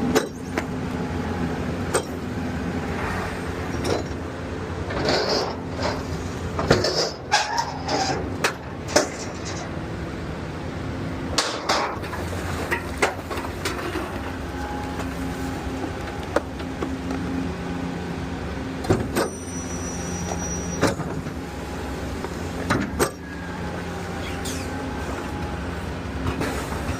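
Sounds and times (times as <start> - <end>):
truck engine running: 0.0 - 26.9.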